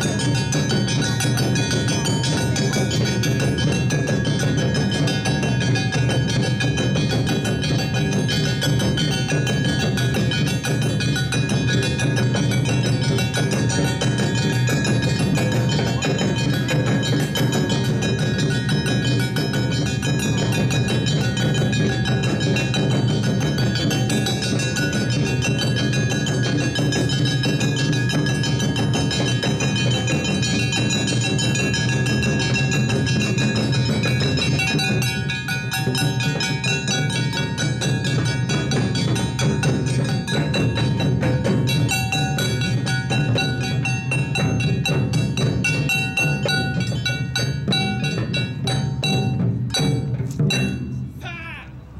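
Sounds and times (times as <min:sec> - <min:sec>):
metal hand gongs ringing: 0:00.0 - 0:51.2
drums: 0:00.0 - 0:51.9.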